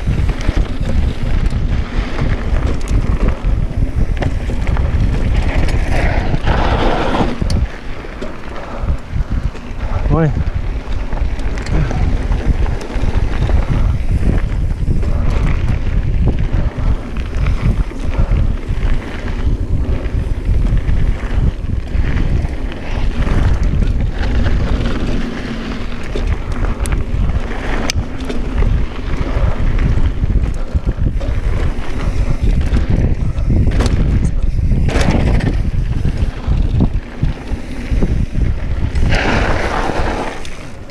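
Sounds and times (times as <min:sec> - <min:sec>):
mountain bike rolling on dirt: 0:00.0 - 0:40.9
wind buffeting microphone: 0:00.0 - 0:40.9.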